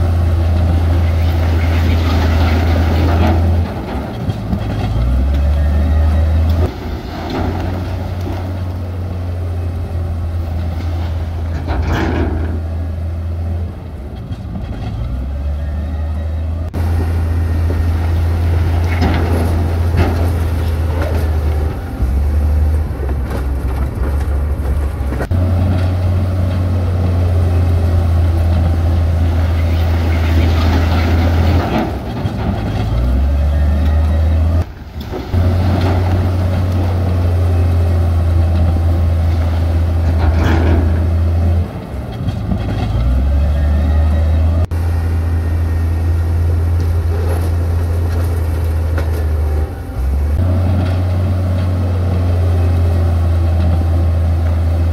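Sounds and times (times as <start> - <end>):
construction machinery engines droning: 0.0 - 54.9.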